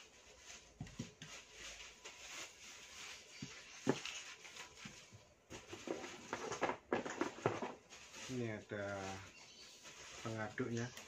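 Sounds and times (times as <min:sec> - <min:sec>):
plastic wrapping rustling: 0:00.0 - 0:11.0.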